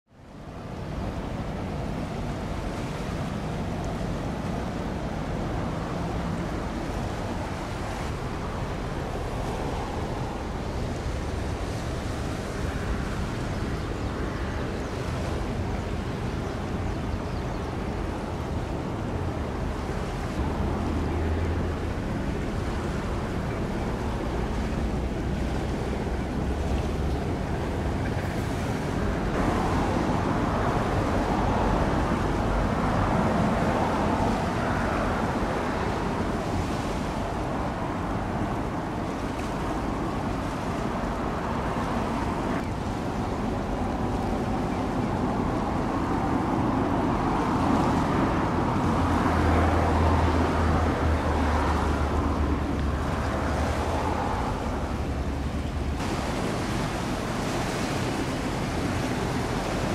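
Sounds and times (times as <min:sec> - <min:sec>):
waves on rocky shore: 0:00.1 - 0:59.9
wind rumbling on microphone: 0:00.1 - 0:59.9.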